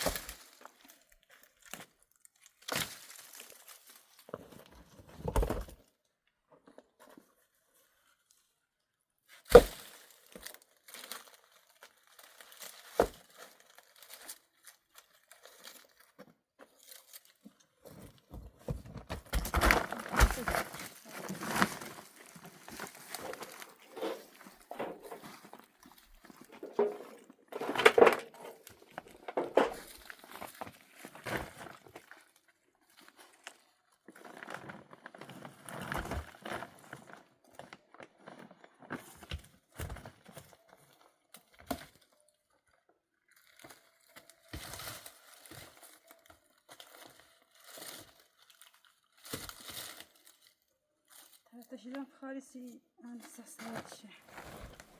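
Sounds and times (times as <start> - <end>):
rustling and crinkling: 0.0 - 8.6, 9.2 - 54.9.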